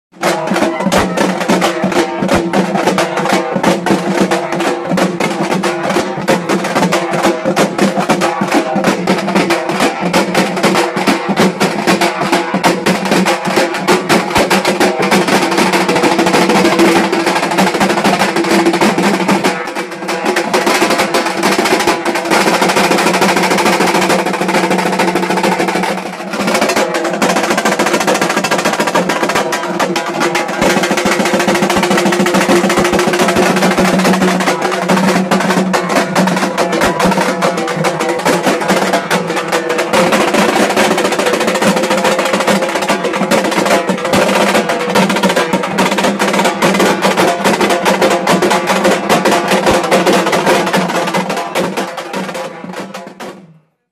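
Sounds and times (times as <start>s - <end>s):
frame drums beaten with sticks: 0.1s - 53.7s
smaller drum: 0.1s - 53.9s.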